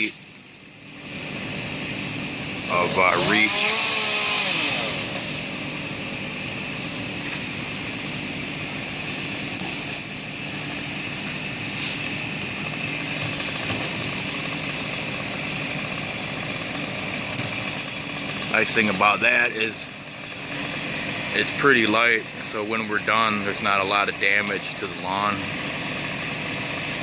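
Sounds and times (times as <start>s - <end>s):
small gasoline engine running: 0.0s - 27.0s.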